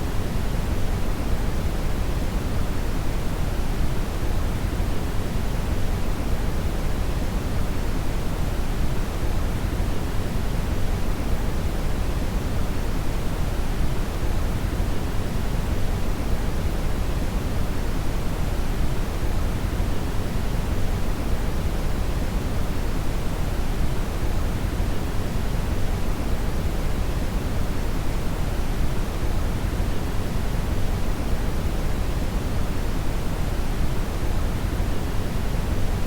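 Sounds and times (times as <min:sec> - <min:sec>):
brown noise rumbling hiss: 0:00.0 - 0:36.0.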